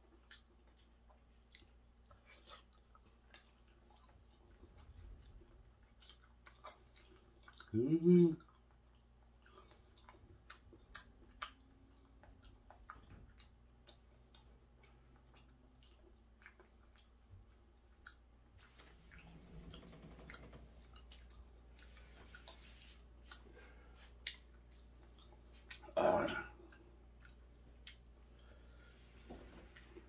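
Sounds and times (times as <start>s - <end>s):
faint chewing: 0.0s - 30.0s.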